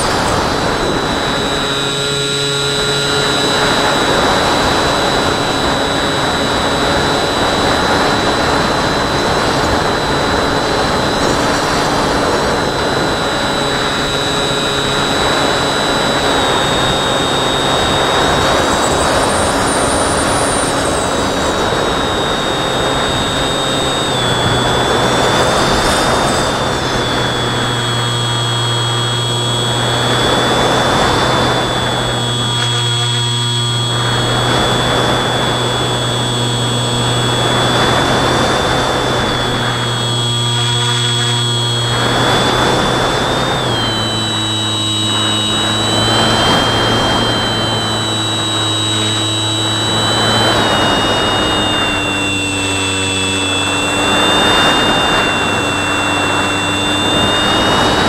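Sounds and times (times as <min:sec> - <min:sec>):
electric motor whine: 0:00.0 - 0:58.0
wind rushing over microphone: 0:00.0 - 0:58.0.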